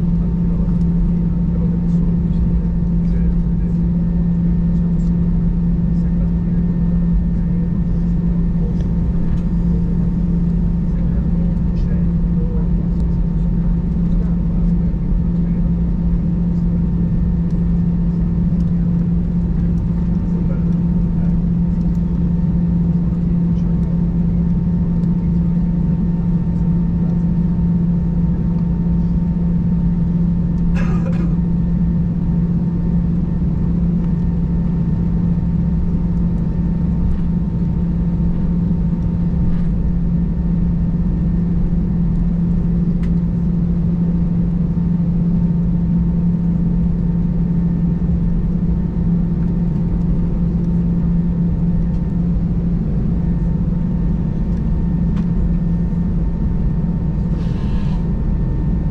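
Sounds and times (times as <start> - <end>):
jet engines hum with whine: 0.0 - 58.9.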